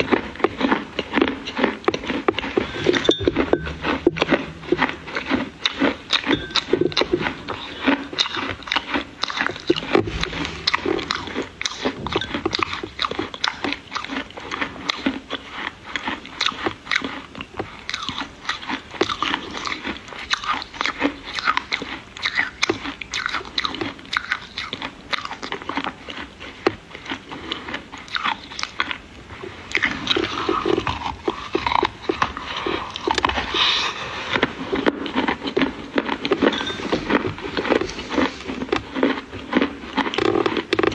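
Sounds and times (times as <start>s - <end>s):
crunchy chewing of dry clay: 0.0s - 40.9s.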